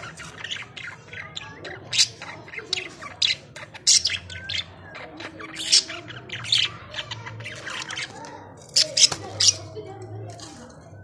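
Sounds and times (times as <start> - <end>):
budgerigars chattering: 0.0 - 9.8.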